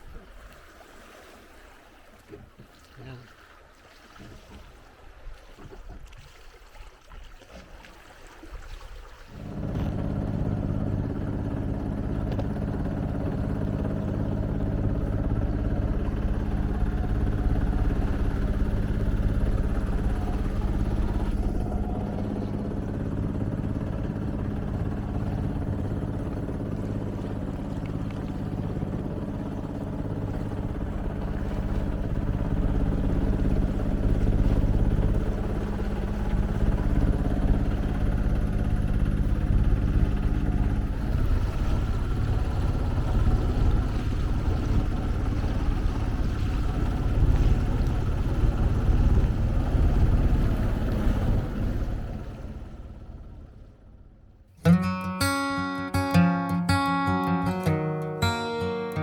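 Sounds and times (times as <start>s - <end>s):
boat engine running steadily: 0.0s - 54.6s
faint water and wind: 0.0s - 59.0s.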